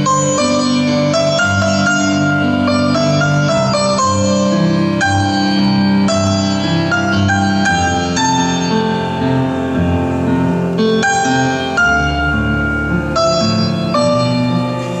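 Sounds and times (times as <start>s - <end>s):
instrumental melody with ringing notes: 0.0s - 15.0s.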